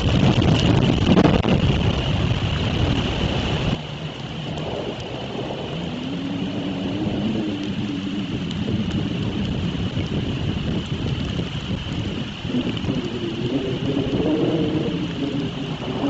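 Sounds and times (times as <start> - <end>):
low thunder rumble: 0.0 - 16.0
rain: 0.0 - 16.0
strong wind gusting through trees: 0.0 - 16.0
wind buffeting microphone: 0.0 - 16.0.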